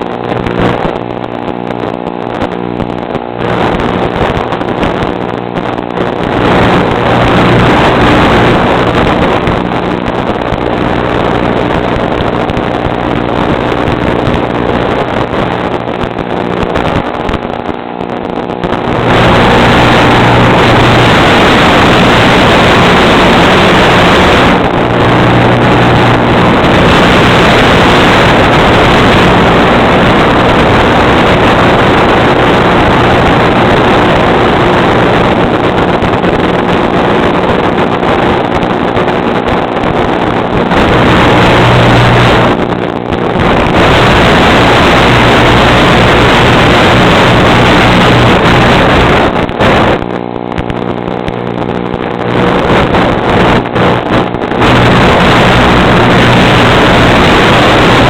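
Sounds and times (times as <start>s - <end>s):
wind-like rushing noise: 0.0s - 58.0s.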